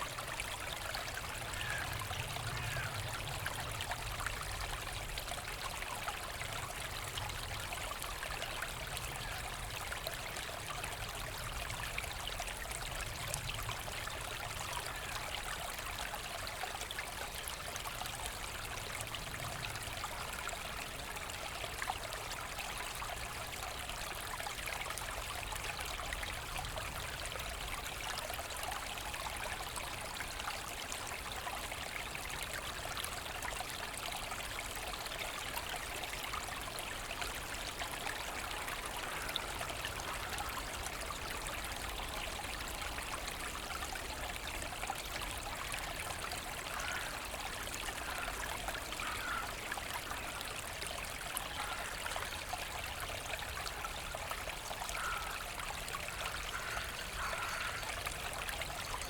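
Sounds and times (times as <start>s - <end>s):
brook running over stones: 0.0s - 59.0s.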